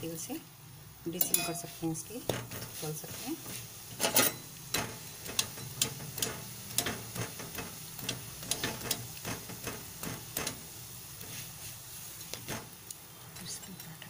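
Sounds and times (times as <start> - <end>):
low steady hum: 0.0 - 14.0
metal spatula scraping griddle: 1.2 - 12.8.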